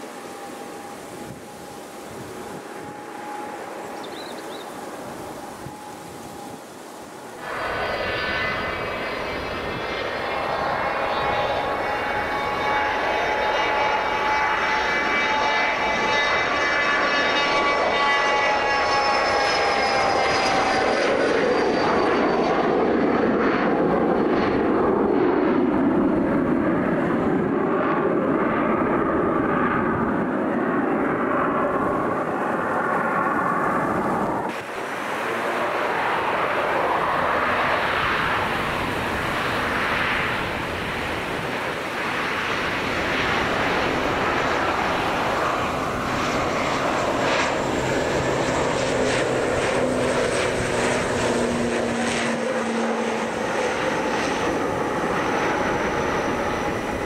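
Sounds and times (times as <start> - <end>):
high steady whine: 0.0 - 22.7, 28.8 - 57.0
airliner engines running: 0.0 - 57.0.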